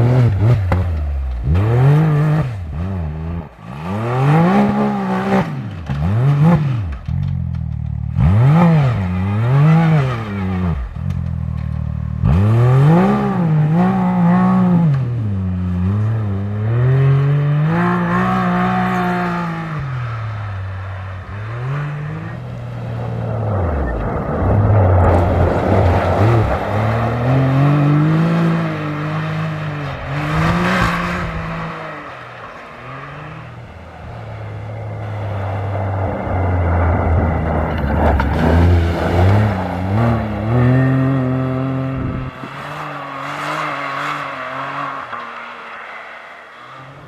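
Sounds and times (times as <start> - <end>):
vehicle engines revving past: 0.0 - 47.0.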